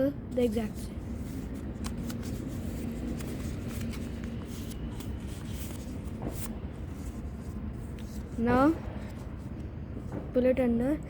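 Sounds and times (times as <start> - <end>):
paper crackles: 0.4 - 9.4
paper rustling and crinkling: 0.4 - 9.6.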